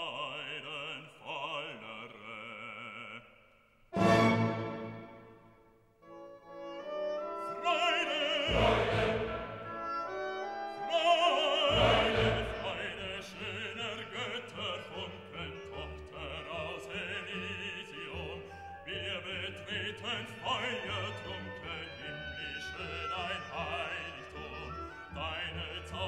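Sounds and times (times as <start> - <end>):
operatic voice singing: 0.0 - 3.4, 7.4 - 9.8, 10.8 - 26.0
orchestral music: 4.0 - 26.0.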